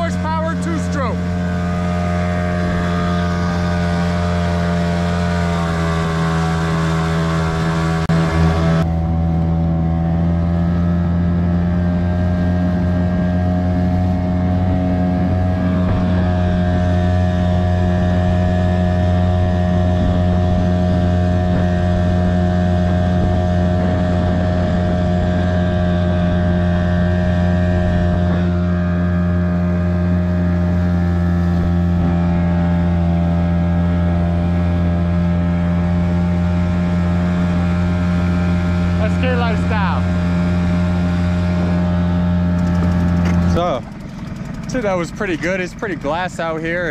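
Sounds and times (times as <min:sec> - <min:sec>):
outboard motor droning: 0:00.0 - 0:46.9.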